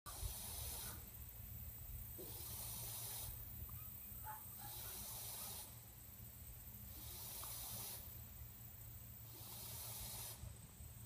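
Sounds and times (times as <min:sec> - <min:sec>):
high hiss: 0:00.1 - 0:11.0.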